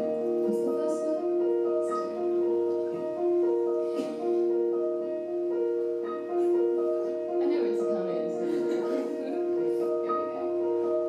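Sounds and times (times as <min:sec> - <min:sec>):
piano slow held chords: 0:00.0 - 0:11.0.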